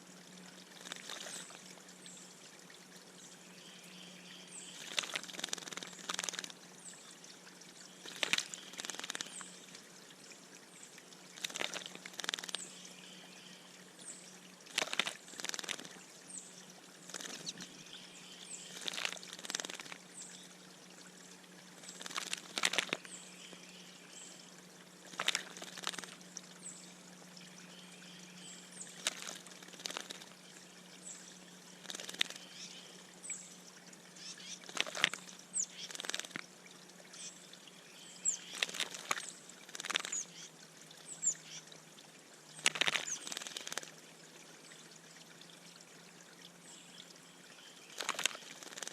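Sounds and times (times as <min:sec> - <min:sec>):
water splashing in bird bath: 0:00.0 - 0:48.9.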